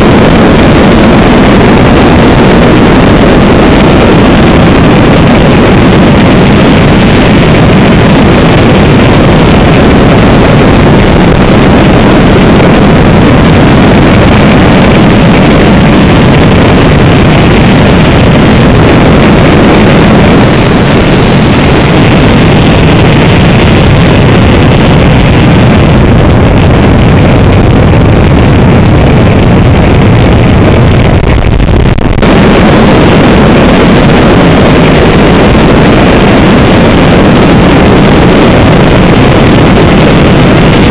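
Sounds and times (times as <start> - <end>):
motorcycle engine drone: 0.0 - 40.9
wind noise on microphone: 0.0 - 40.9.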